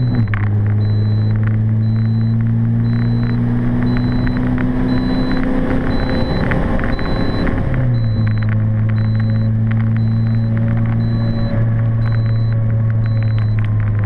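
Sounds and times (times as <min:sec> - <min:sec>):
diesel engine pulling hard: 0:00.0 - 0:14.0.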